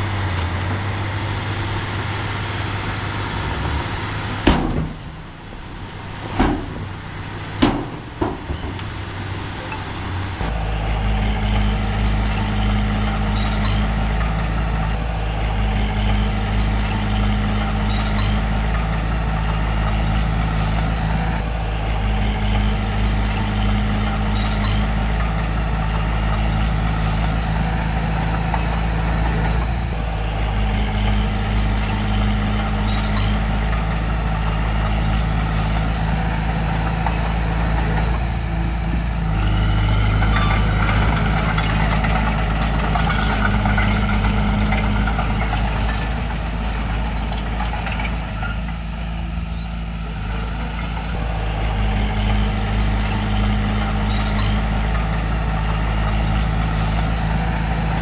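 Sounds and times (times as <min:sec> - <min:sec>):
low engine rumble: 0:00.0 - 0:58.0.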